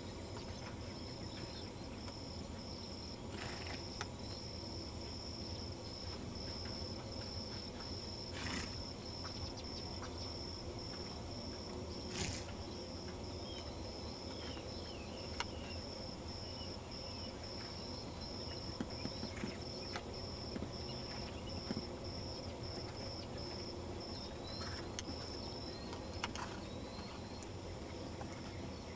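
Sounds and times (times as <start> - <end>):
insect chirping trill: 0.0 - 28.9.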